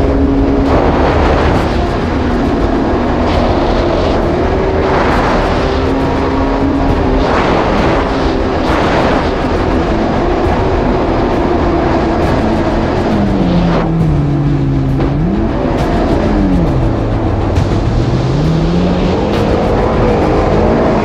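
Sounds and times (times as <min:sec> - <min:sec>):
jet ski engine running: 0:00.0 - 0:21.0
water rushing: 0:00.0 - 0:21.0.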